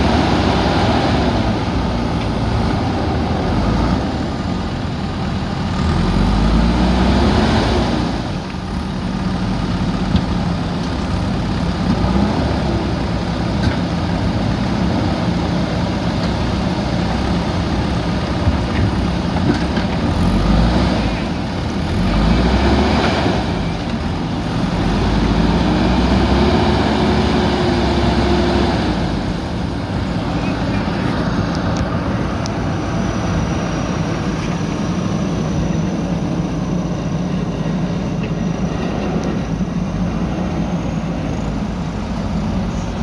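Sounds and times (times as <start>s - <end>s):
diesel engines revving under load: 0.0s - 43.0s.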